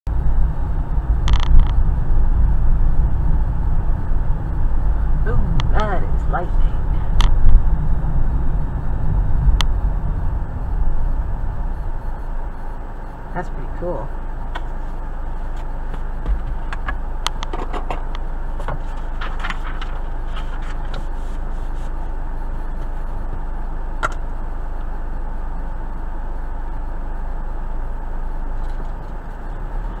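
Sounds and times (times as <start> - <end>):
car engine idling: 0.1 - 30.0.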